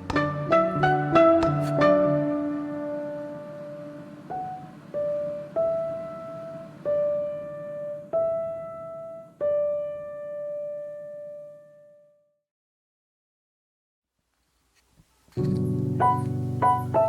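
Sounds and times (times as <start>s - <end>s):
slow piano notes: 0.0s - 12.2s, 15.3s - 17.0s.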